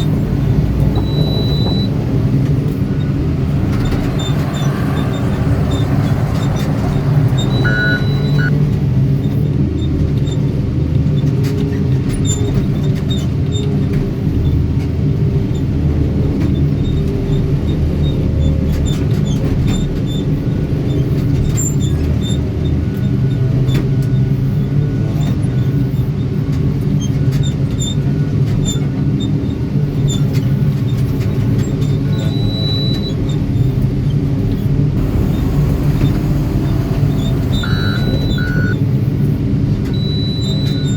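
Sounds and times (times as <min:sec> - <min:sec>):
diesel engine droning: 0:00.0 - 0:12.7, 0:13.5 - 0:40.9.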